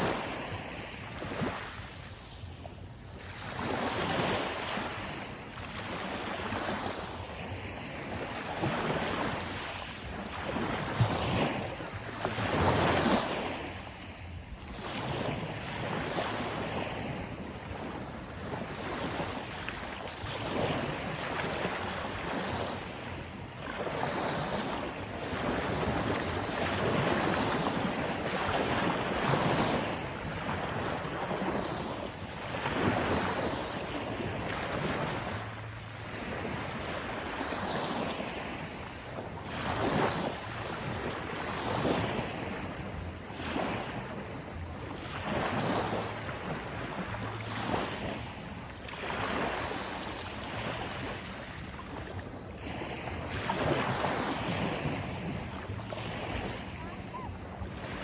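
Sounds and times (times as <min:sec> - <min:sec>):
sea waves breaking: 0:00.0 - 0:58.0
wind on microphone: 0:03.0 - 0:58.0.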